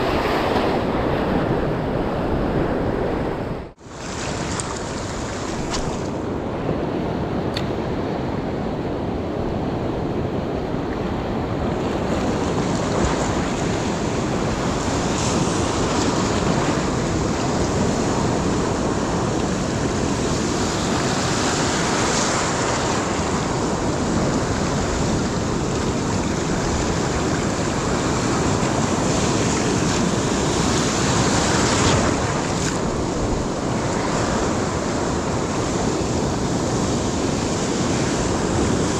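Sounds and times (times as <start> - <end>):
sea waves breaking over rocks: 0.0 - 8.6, 9.7 - 38.9.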